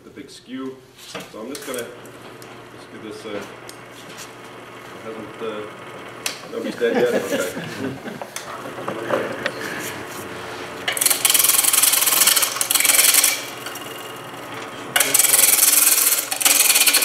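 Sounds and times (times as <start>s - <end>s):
lathe humming: 1.5s - 17.0s
chisel cutting wood on lathe: 1.7s - 17.0s.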